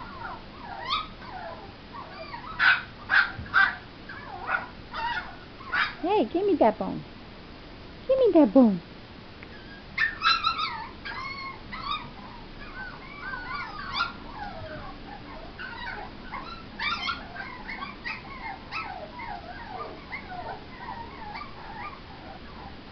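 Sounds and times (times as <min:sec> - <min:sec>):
puppy whining and whimpering: 0:00.0 - 0:06.0, 0:09.5 - 0:22.8
puppy yipping: 0:00.0 - 0:06.0, 0:09.5 - 0:22.7.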